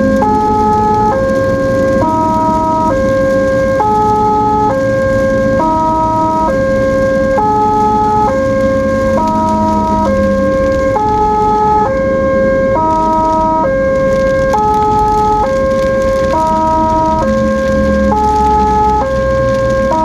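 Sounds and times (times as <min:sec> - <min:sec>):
ambulance electronic siren: 0:00.0 - 0:20.0
low vehicle rumble: 0:00.0 - 0:20.0.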